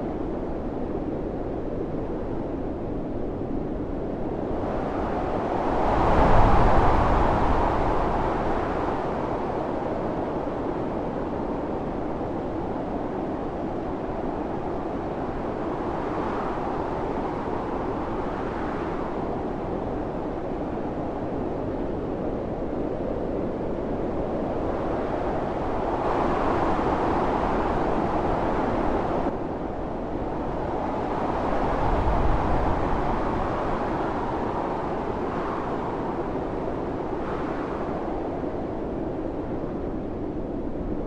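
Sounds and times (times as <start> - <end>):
strong wind blowing: 0.0 - 41.0.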